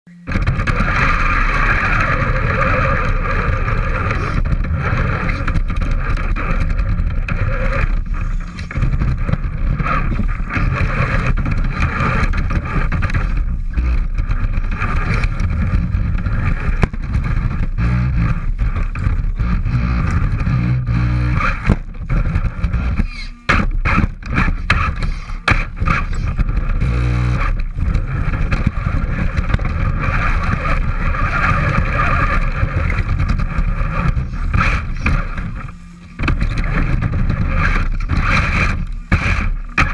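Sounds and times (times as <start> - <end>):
electric motor whining: 0.1 - 39.9.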